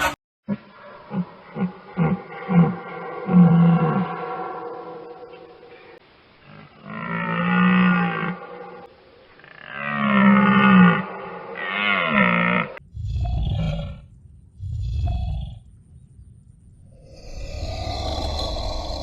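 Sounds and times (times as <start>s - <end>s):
long drawn-out animal calls: 0.5s - 14.0s, 16.9s - 19.0s
low rumbling animal growls: 0.5s - 15.8s, 16.8s - 19.0s.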